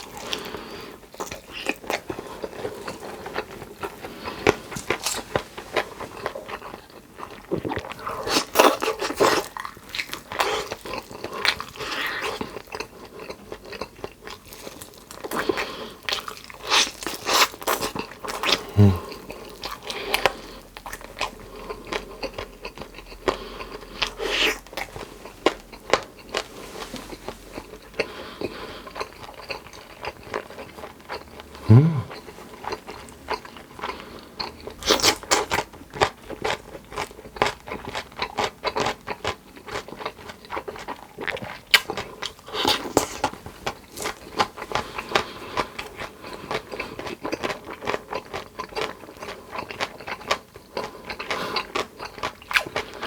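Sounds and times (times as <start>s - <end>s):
person crunching and chewing: 0.0s - 53.0s.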